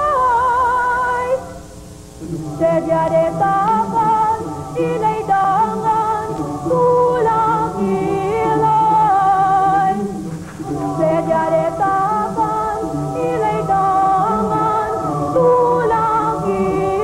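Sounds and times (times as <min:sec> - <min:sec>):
woman singing melody: 0:00.0 - 0:17.0
choir singing: 0:02.2 - 0:17.0.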